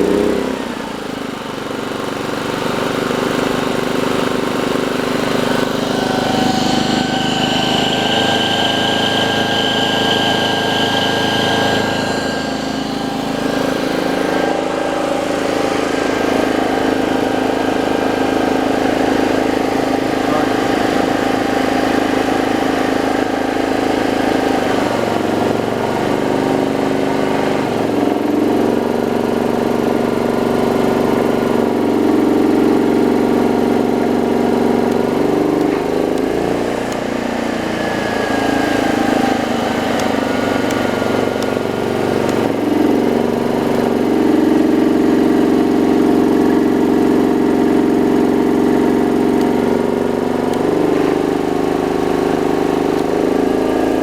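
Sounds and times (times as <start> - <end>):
portable generator engine running: 0.0 - 54.0.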